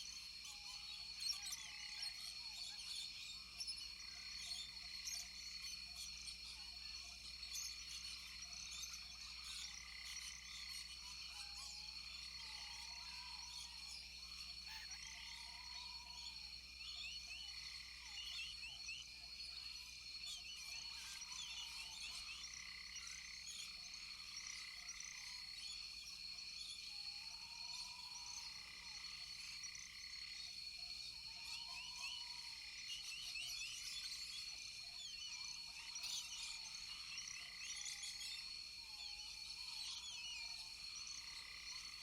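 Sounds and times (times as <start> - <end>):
frogs chirping: 0.0 - 42.0.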